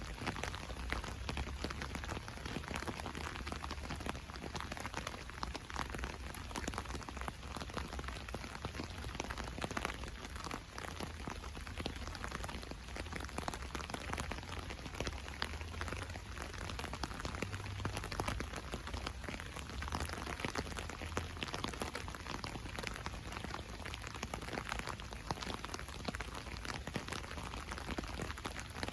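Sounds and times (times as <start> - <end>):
rain drumming on umbrella: 0.0 - 28.9.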